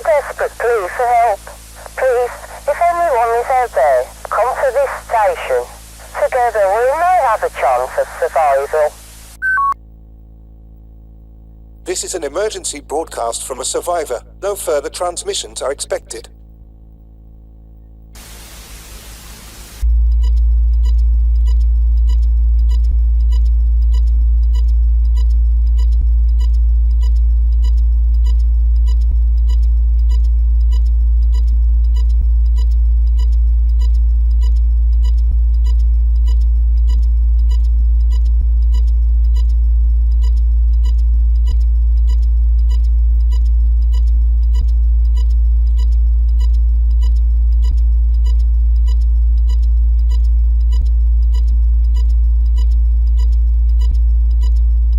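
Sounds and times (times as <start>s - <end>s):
loud steady low hum: 0.0s - 54.9s.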